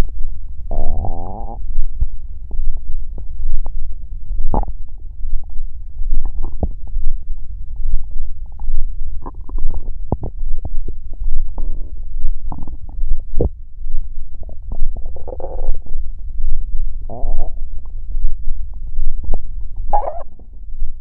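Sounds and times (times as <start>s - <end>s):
stomach growling and gurgling: 0.7s - 13.6s, 14.3s - 20.6s.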